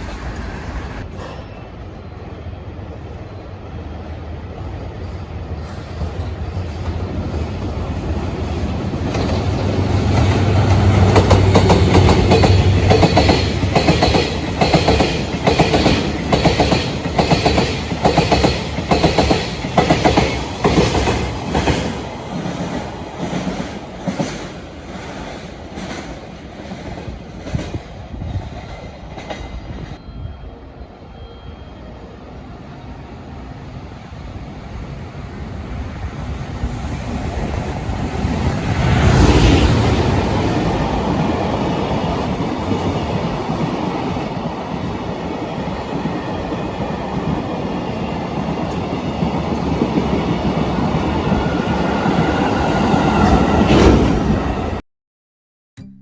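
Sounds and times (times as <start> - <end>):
freight train low drone: 0.0 - 54.8.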